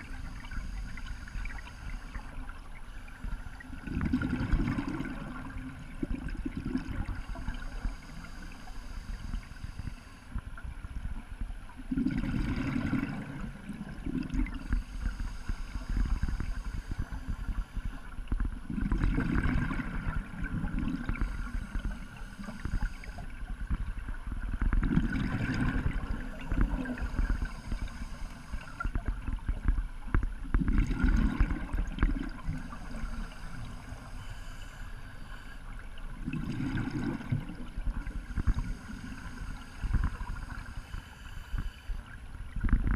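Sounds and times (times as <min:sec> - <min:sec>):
underwater breath bubbles gurgling: 0:00.0 - 0:42.9.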